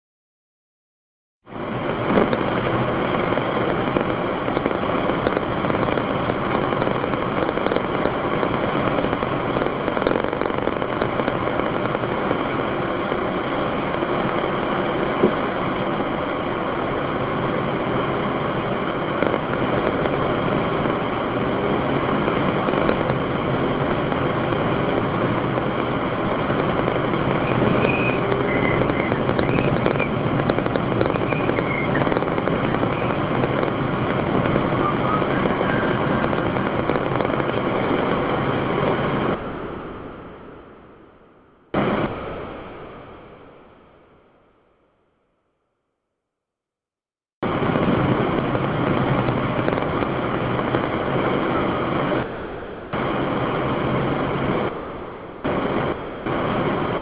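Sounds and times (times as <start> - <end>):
car road and engine noise: 1.4 - 45.0, 47.4 - 57.0.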